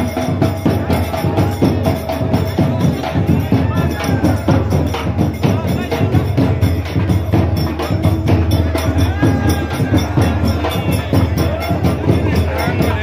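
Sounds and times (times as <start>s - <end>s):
procession drumbeats: 0.0s - 13.0s.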